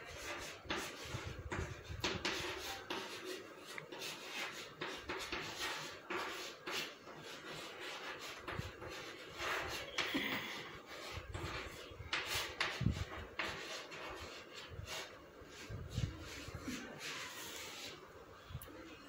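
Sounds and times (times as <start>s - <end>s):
chalk scratching on chalkboard: 0.0s - 18.2s.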